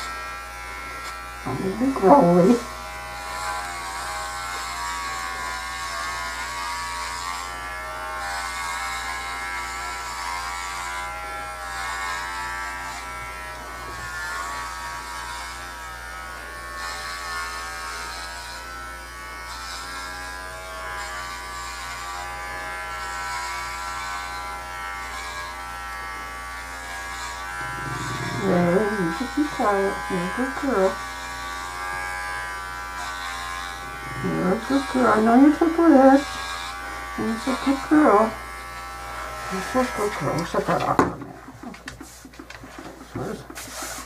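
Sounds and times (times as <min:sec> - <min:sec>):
electric pet clippers buzzing: 0:00.0 - 0:44.0.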